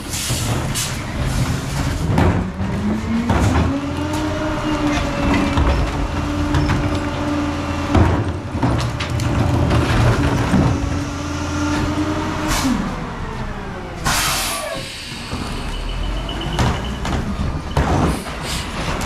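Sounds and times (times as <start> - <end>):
garbage truck engine rumble: 0.0 - 19.0
trash carts banging and clunking: 0.0 - 19.0.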